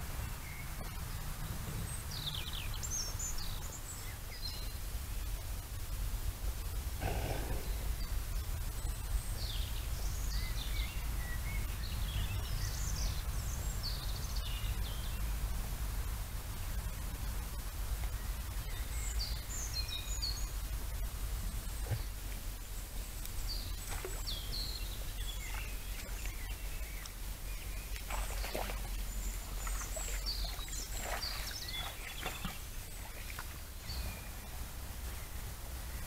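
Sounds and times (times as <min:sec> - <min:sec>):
low background rumble: 0:00.0 - 0:36.0
songbirds chirping and trilling: 0:00.0 - 0:36.0.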